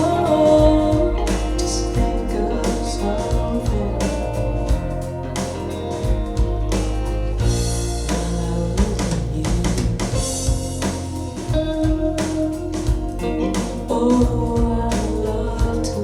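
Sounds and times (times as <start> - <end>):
bluesy guitar music: 0.0 - 16.0
drum kit beat: 0.0 - 16.0.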